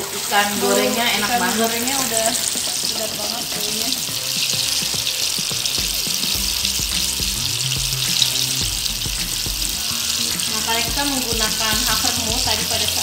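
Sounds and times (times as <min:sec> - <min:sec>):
fish deep-frying in hot oil: 0:00.0 - 0:13.0.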